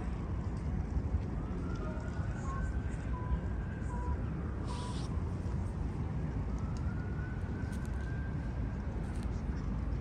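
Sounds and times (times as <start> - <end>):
distant traffic rumble: 0.0 - 10.0.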